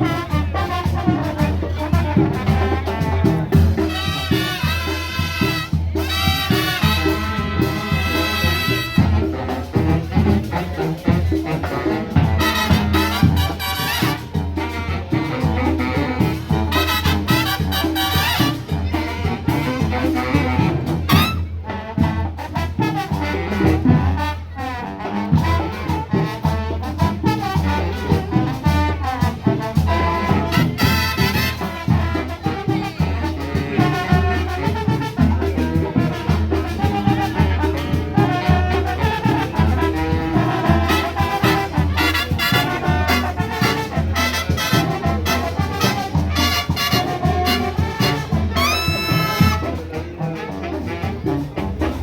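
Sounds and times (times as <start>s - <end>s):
brass band playing latin music: 0.0s - 52.0s.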